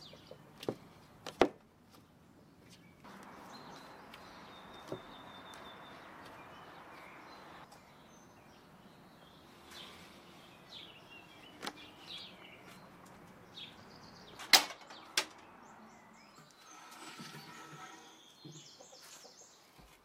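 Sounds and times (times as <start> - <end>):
small birds chirping: 0.0 - 1.3, 1.9 - 20.0.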